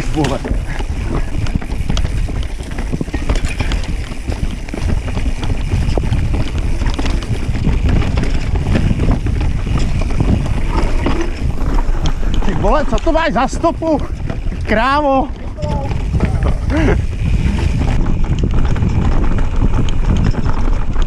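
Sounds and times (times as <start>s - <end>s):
mountain bike rattling over rocks: 0.0s - 21.0s
wind rumble on microphone: 0.0s - 21.0s.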